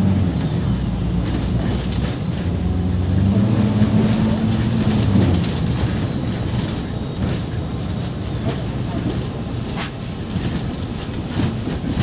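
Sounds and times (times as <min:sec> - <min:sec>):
bus diesel engine accelerating: 0:00.0 - 0:12.0.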